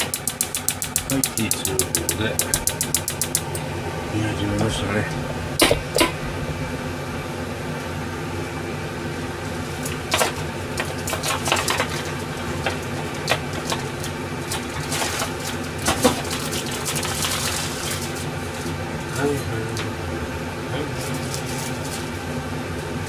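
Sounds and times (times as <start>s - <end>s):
gas stove low hum: 0.0s - 16.9s, 17.7s - 23.0s.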